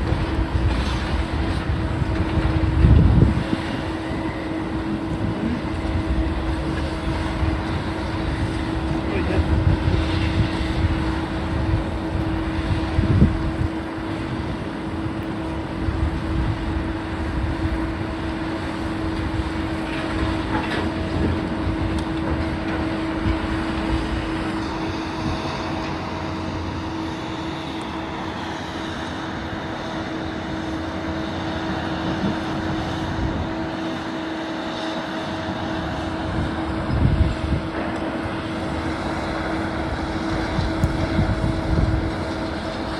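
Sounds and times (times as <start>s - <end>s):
demolition machinery humming: 0.0s - 42.9s.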